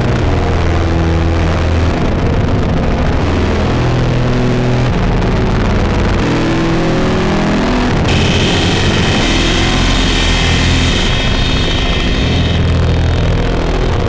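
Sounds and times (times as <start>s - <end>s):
dark industrial drone music: 0.0s - 14.0s.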